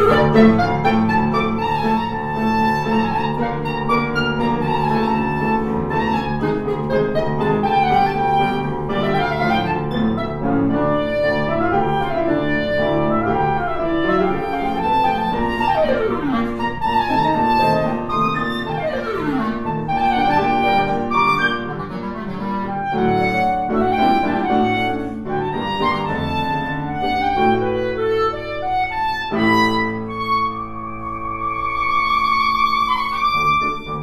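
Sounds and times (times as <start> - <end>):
clarinet: 0.0 - 34.0
grand piano: 0.0 - 34.0.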